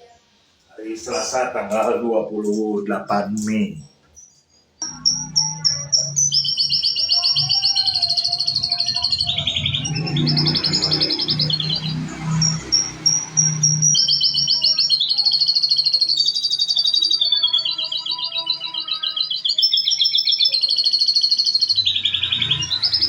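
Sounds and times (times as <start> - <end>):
canary singing trills: 0.8 - 23.0.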